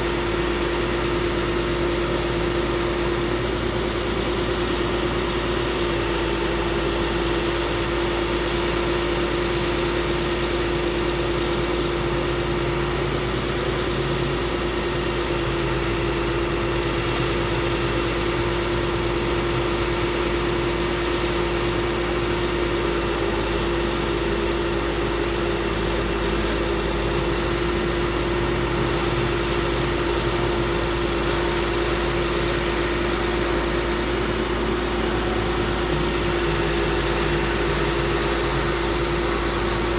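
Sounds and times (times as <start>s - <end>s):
constant whine: 0.0s - 39.9s
diesel engine running: 0.0s - 39.9s.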